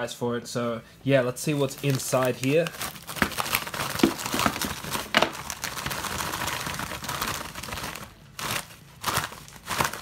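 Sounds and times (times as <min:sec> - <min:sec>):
plastic bag and bubble wrap crinkling: 0:01.4 - 0:10.0.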